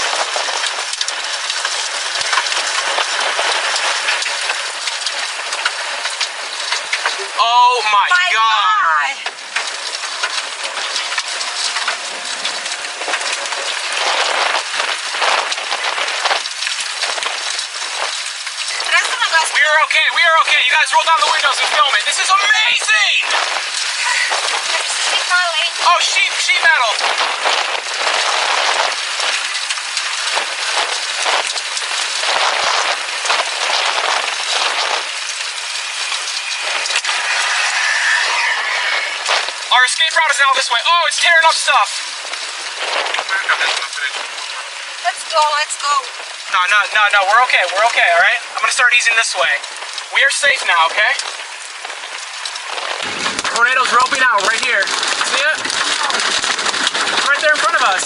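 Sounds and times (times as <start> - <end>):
rain and grit striking car: 0.0 - 58.0.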